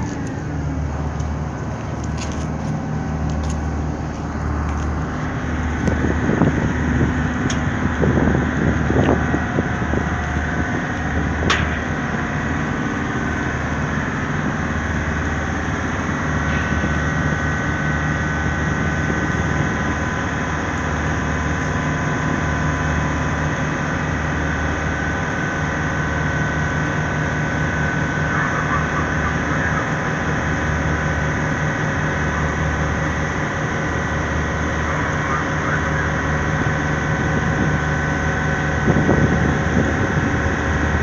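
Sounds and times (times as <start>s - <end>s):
ship engine throbbing: 0.0s - 41.0s.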